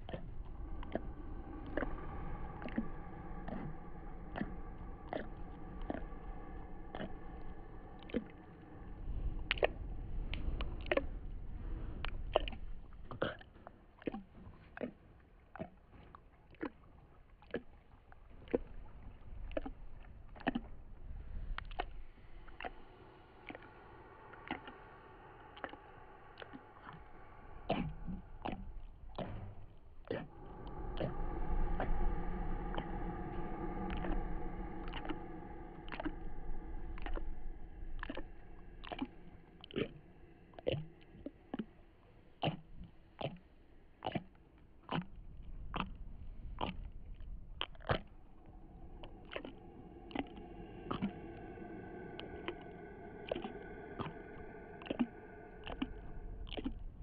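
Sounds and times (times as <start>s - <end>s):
droning tone: 0.0s - 13.0s, 18.8s - 57.0s
faint low hum: 0.0s - 57.0s.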